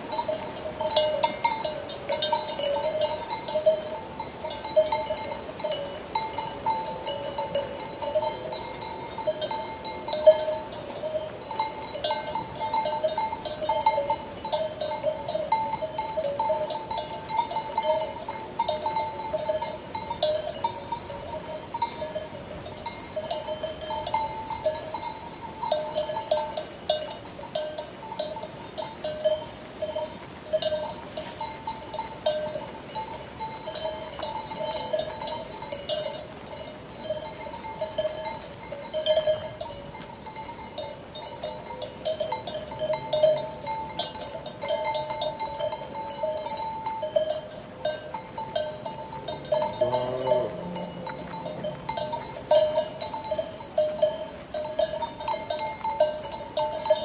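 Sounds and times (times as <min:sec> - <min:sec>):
sheep bells clanking: 0:00.0 - 0:57.0.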